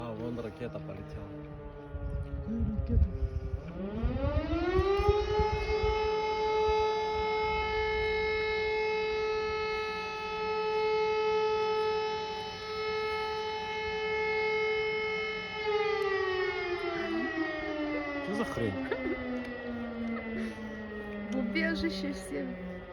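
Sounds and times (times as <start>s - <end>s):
civil defence siren wailing: 0.0s - 22.9s.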